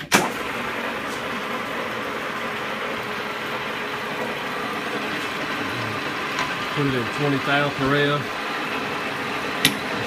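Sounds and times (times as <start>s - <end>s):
drill press running: 0.0s - 10.0s.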